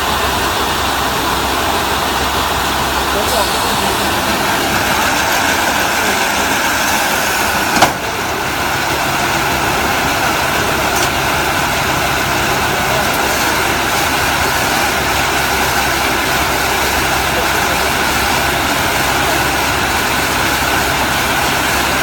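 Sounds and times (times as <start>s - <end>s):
hay baler running: 0.0s - 22.0s.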